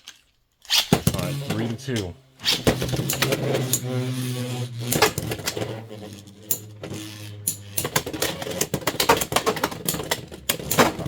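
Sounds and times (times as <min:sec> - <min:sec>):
spinning tops whirring: 0:00.7 - 0:11.0.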